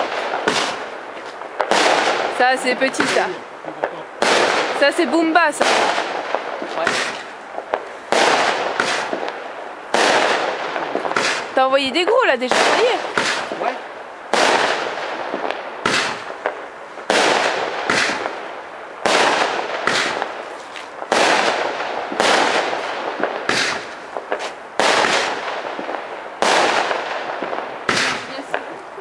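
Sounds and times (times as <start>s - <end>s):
fireworks banging: 0.0s - 29.0s.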